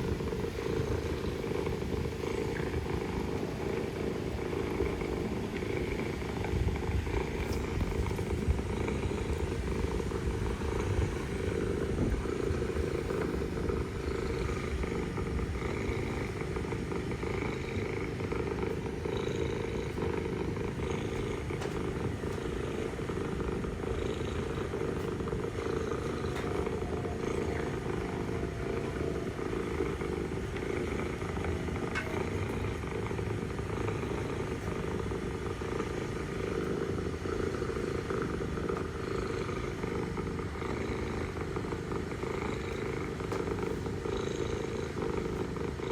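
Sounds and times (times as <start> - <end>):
cat purring: 0.0 - 45.9.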